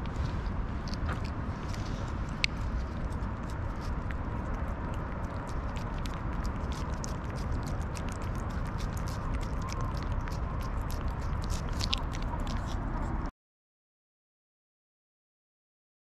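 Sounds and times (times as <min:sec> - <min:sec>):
cat licking and smacking: 0:00.0 - 0:13.3
low background noise: 0:00.0 - 0:13.3.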